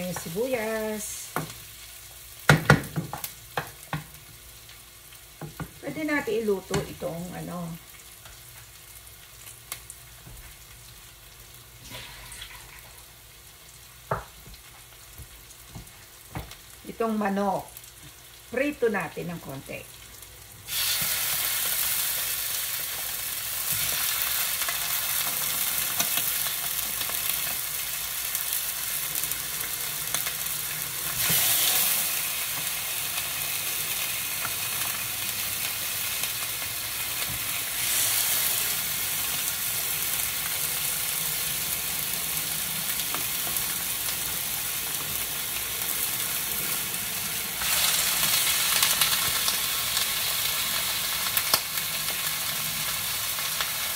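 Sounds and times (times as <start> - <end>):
chicken sizzling in oil: 0.0 - 53.9.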